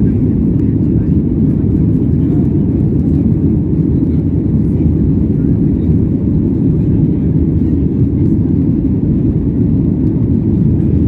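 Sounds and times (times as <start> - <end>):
airflow along fuselage: 0.0 - 11.0
jet engine cabin rumble: 0.0 - 11.0.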